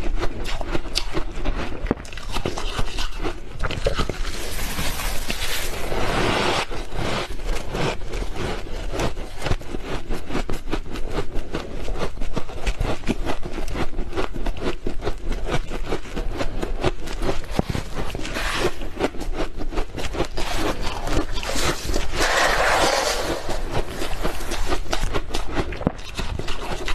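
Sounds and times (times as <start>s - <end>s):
chewing frost crunches: 0.0s - 26.9s.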